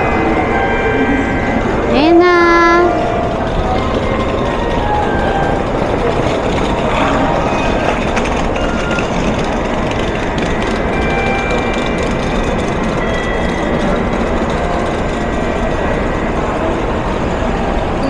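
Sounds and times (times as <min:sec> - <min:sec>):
train rushing: 0:00.0 - 0:18.0.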